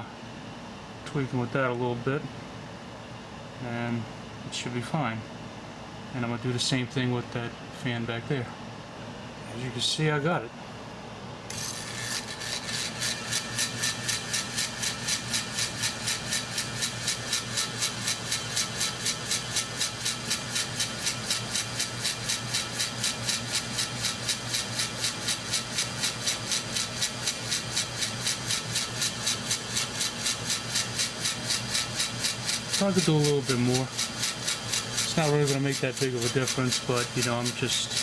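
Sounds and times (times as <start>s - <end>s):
ceiling fan motor humming: 0.0s - 38.0s.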